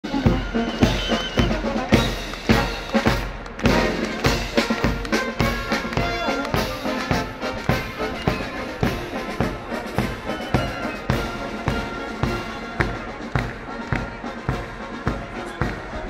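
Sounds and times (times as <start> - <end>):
brass horns: 0.0 - 16.0
steady drum beat: 0.0 - 16.0.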